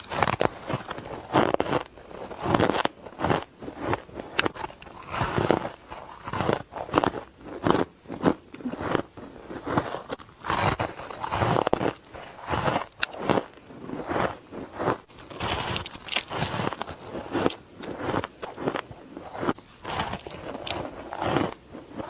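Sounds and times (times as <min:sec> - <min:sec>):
ice crunching while chewed: 0:00.0 - 0:22.0.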